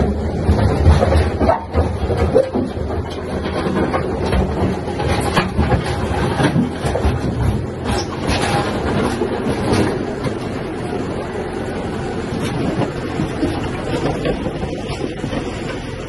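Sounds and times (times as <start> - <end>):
clanks and rattles: 0.0 - 16.0
tractor engine humming: 0.0 - 16.0.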